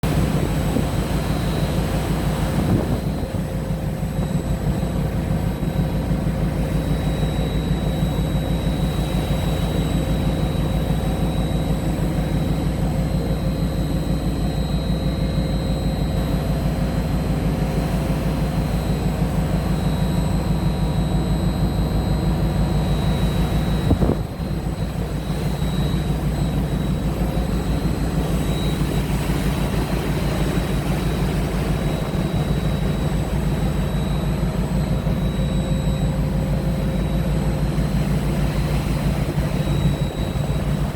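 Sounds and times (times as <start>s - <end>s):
faint high whine: 0.0s - 40.9s
ship engine droning: 0.0s - 40.9s.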